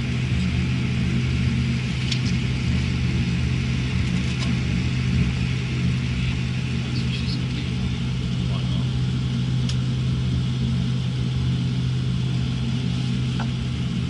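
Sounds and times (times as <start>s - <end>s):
airliner engines idling drone: 0.0s - 14.0s.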